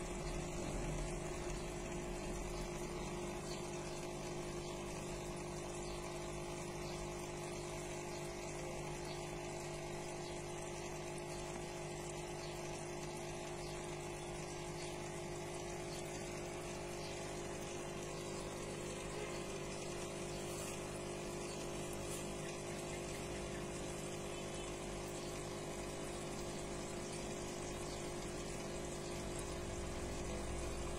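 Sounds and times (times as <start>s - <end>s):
moving water: 0.0s - 30.9s
water pump humming: 0.0s - 30.9s.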